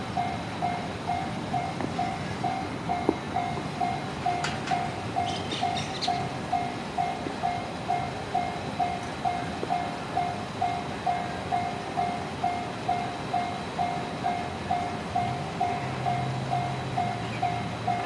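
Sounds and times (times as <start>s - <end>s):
level-crossing warning bell: 0.0s - 18.0s.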